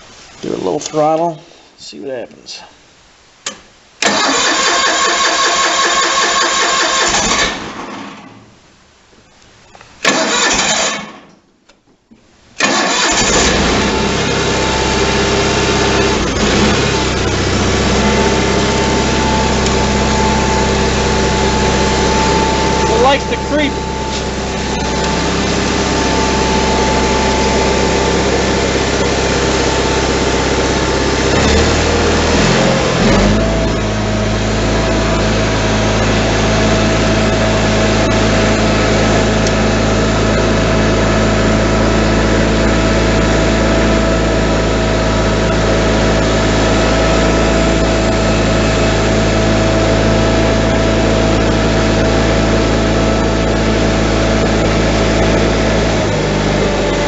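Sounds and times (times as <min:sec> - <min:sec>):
tractor engine running: 0:04.0 - 0:07.7, 0:12.6 - 0:57.0.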